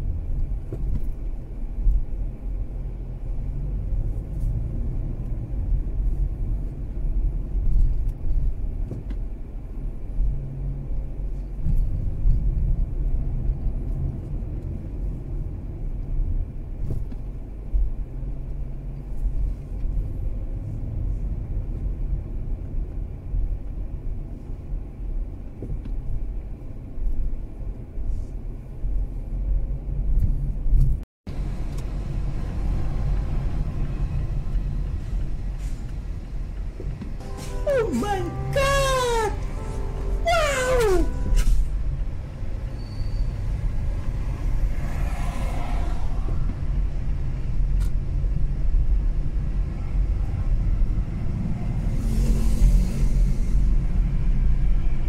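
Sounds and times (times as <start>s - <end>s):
engine and road rumble: 0.0s - 55.0s.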